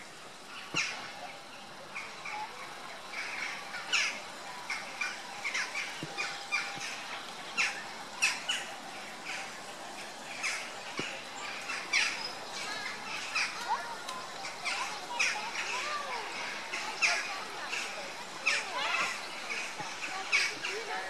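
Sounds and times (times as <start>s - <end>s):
birds calling: 0.4s - 21.0s.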